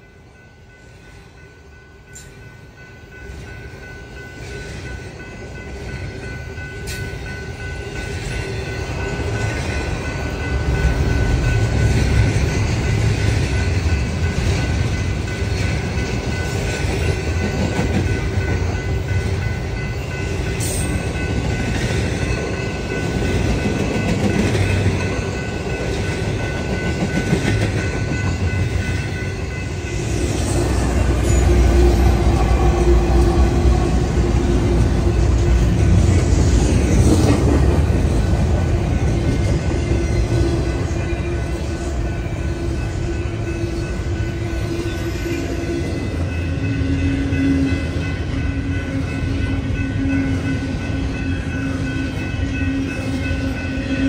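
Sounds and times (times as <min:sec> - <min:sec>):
freight train rumbling and rattling: 0:00.0 - 0:54.0.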